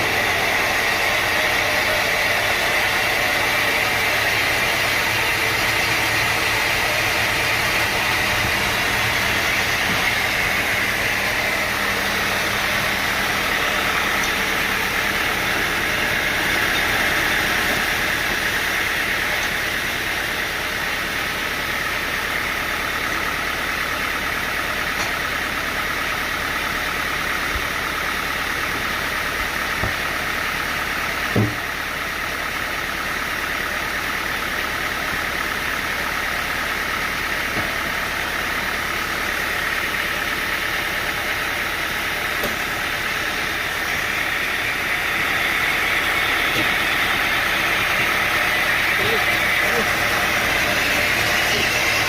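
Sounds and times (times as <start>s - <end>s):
sawmill machinery humming: 0.0s - 52.0s.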